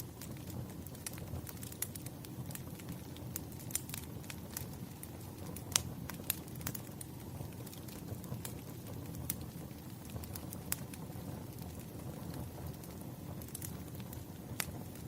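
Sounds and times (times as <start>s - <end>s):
fire rumbling: 0.0s - 15.0s
firewood crackling and popping: 0.0s - 15.0s.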